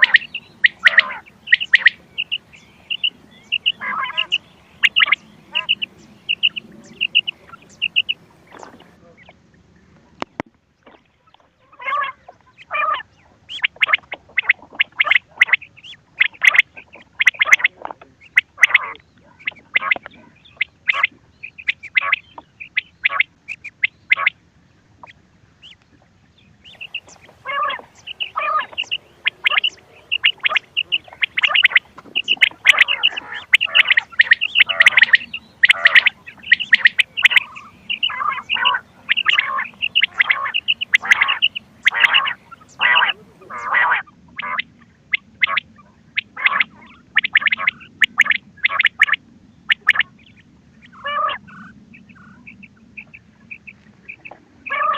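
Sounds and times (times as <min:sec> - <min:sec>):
quail chirping calls: 0:00.0 - 0:09.4, 0:11.2 - 0:24.4, 0:25.0 - 0:25.8, 0:26.6 - 0:54.9.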